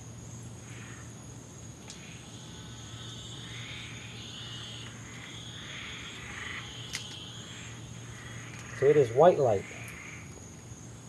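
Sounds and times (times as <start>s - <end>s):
frogs calling: 0.0s - 11.0s
insect trill: 0.0s - 11.0s
low steady hum: 0.0s - 11.0s.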